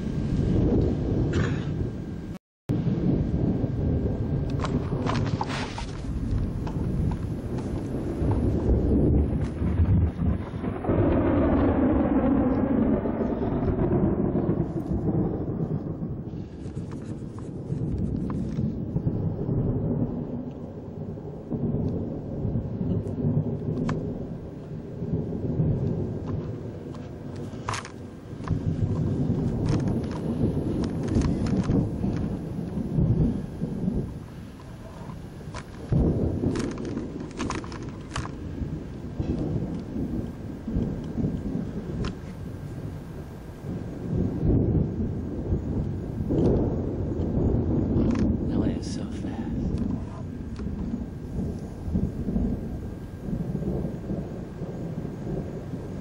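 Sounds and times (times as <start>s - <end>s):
thunder rumbling: 0.0s - 56.0s.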